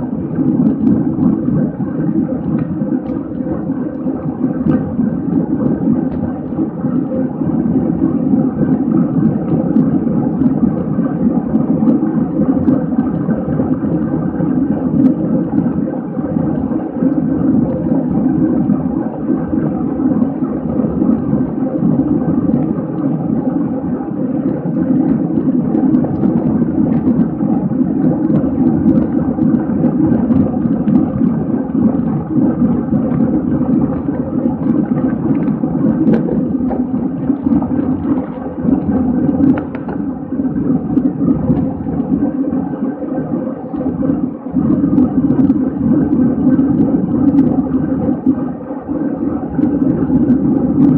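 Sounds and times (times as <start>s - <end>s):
wind rush on microphone: 0.0s - 50.9s.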